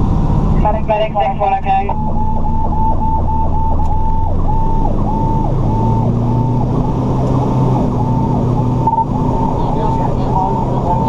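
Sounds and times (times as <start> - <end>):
diesel engine drone: 0.0 - 11.0
fire engine electronic siren: 0.5 - 11.0.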